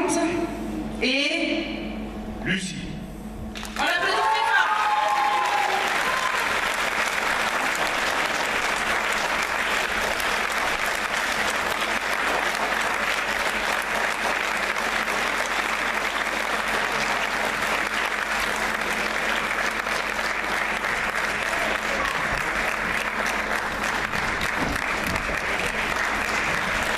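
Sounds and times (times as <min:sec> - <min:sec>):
crowd applauding: 0:03.6 - 0:26.9.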